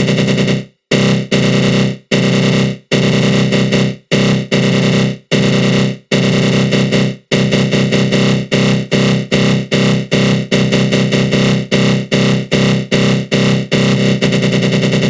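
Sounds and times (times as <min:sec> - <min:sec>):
pulsing harsh synth buzz: 0:00.0 - 0:15.0.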